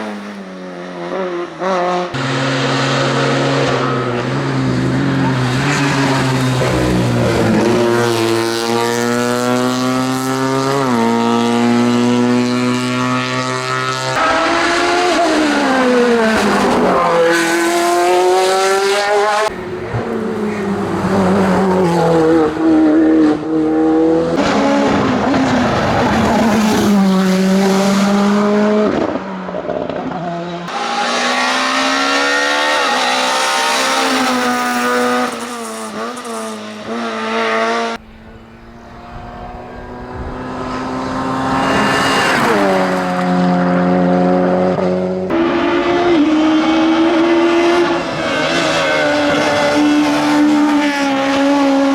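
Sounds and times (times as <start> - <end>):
racing car engines at full throttle: 0.0 - 51.9.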